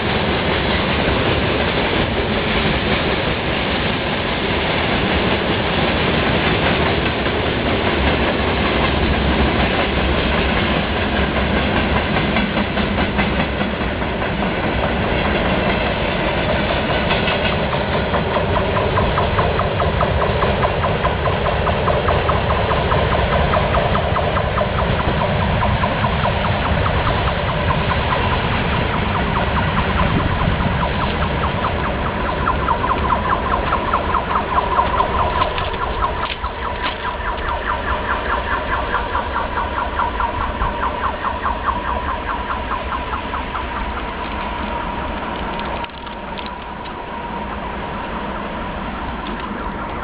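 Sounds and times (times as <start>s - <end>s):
low train rumble: 0.0s - 50.0s
railway rails ringing: 0.0s - 50.0s.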